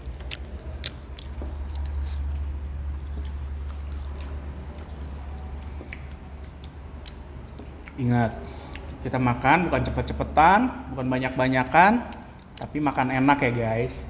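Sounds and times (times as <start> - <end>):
people chewing fries: 0.0 - 10.2, 10.8 - 14.0
steady low hum: 0.0 - 14.0.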